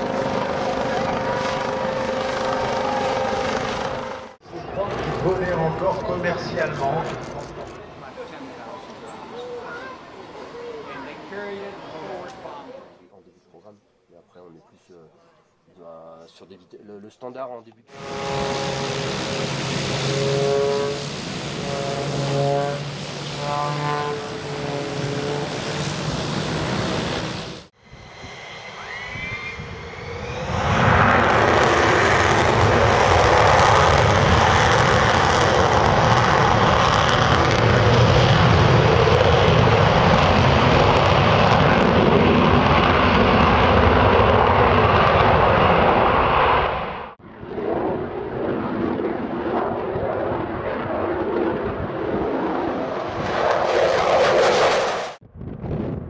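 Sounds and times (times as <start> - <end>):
aircraft engines roaring: 0.0 - 13.1, 17.9 - 55.2
rising engine whine: 0.0 - 13.1, 17.9 - 55.2.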